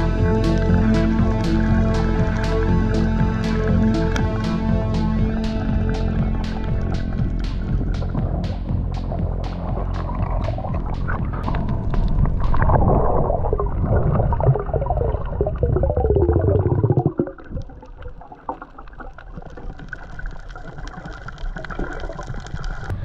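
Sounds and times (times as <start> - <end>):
underwater rumbling and gurgling: 0.0 - 23.0.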